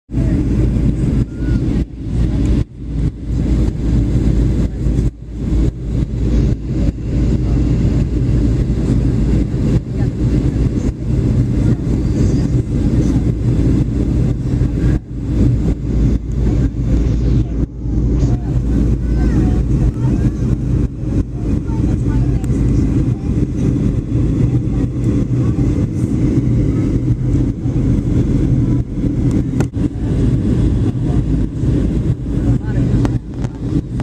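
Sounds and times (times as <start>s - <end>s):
airliner cabin engine rumble: 0.1s - 34.0s.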